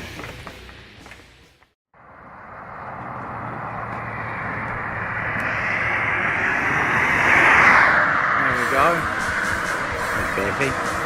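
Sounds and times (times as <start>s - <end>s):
vehicle passing: 2.0s - 11.0s.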